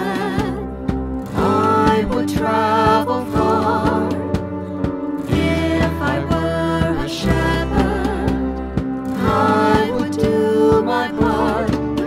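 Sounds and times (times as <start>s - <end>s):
worship band playing: 0.0s - 12.0s.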